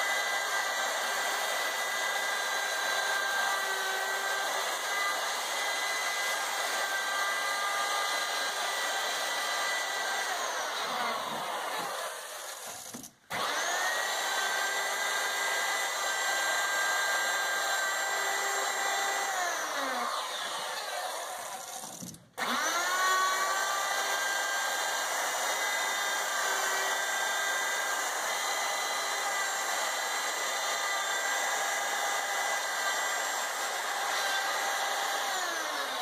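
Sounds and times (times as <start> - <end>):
router whining cutting plywood: 0.0 - 36.0.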